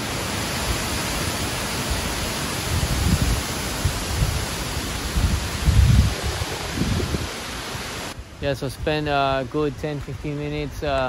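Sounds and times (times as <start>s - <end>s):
strong wind blowing: 0.0s - 10.8s
wind buffeting microphone: 1.8s - 10.9s.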